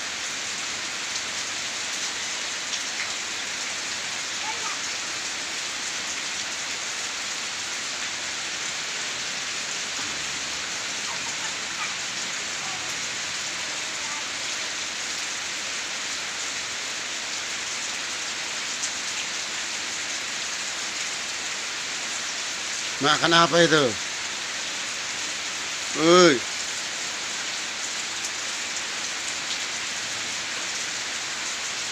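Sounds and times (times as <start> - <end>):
rain falling on ground: 0.0 - 31.9.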